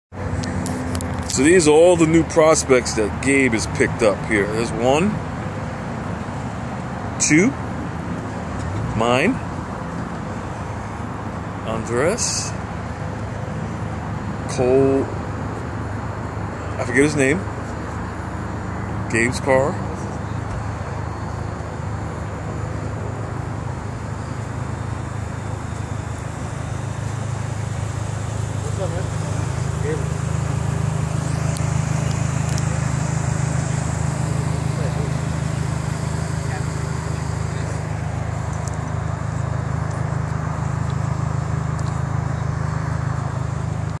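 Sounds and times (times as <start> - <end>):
car engine idling: 0.1 - 44.0.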